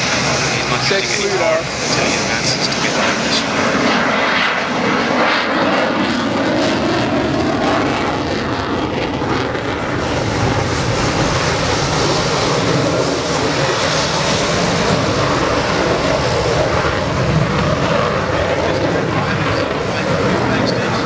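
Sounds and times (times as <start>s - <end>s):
aircraft engine rushing: 0.0s - 21.0s.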